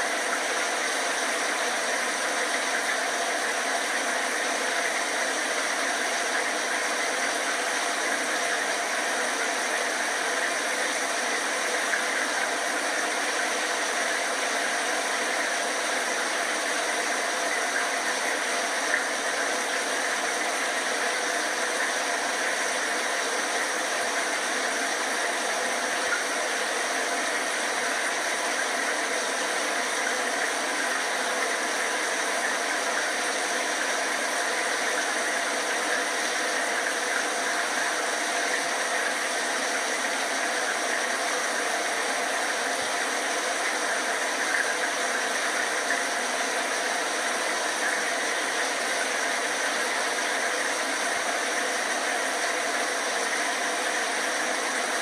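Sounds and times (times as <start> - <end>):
shower running: 0.0 - 55.0.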